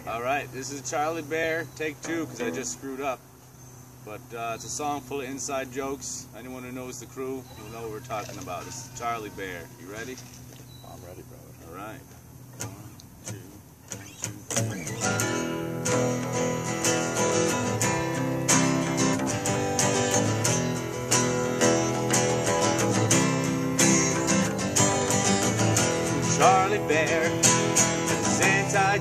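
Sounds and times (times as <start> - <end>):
acoustic bass guitar: 0.0 - 29.0
acoustic guitar strumming: 0.0 - 29.0.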